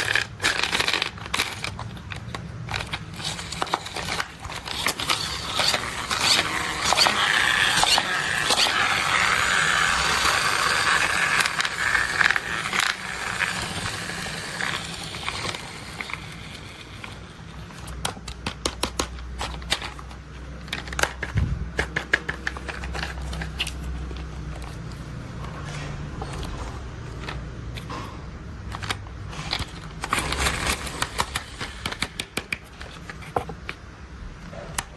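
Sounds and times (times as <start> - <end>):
sharp plastic clicks: 0.0 - 25.6, 28.7 - 33.8
packaging rustling and scraping: 0.0 - 33.9.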